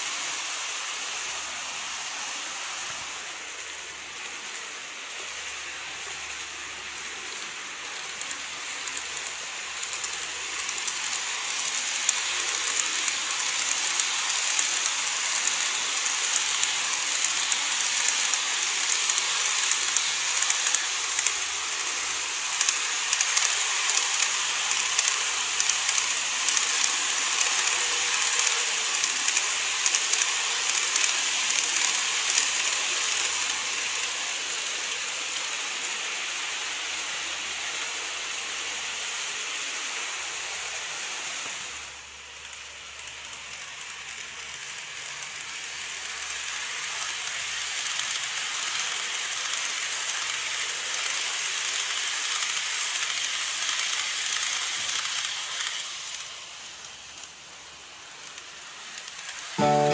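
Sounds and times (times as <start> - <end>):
model train wheels rattling on rails: 0.0 - 59.8.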